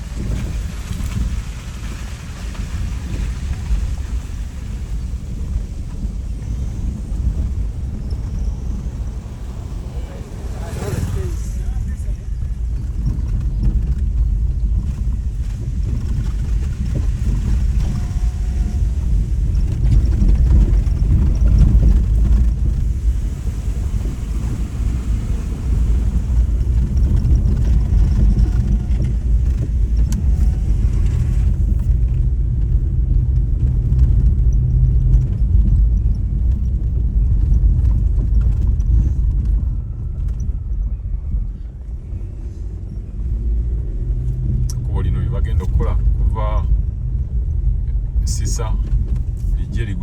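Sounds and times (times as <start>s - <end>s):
vehicle rumbling along a road: 0.0s - 50.0s.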